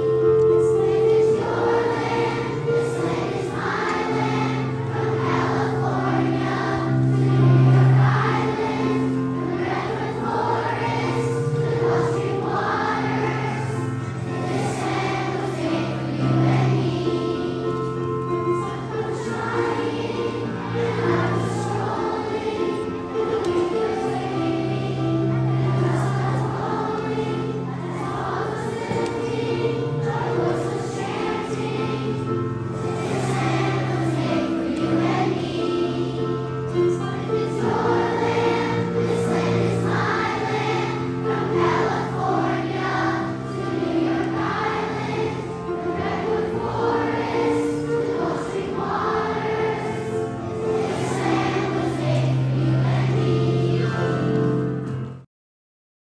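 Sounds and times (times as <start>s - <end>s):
children's choir singing: 0.0s - 55.2s
instrumental accompaniment: 0.0s - 55.2s.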